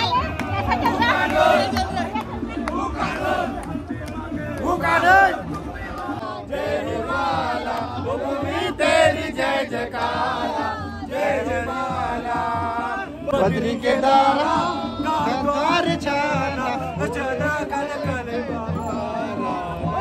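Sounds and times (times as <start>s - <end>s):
men chanting and singing: 0.0s - 20.0s.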